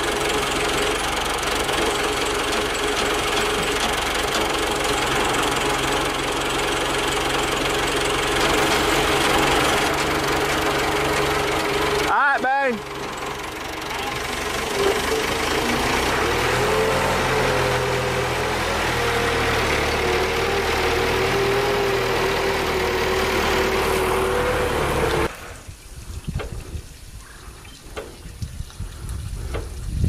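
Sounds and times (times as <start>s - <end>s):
forklift engine running: 0.0s - 25.6s.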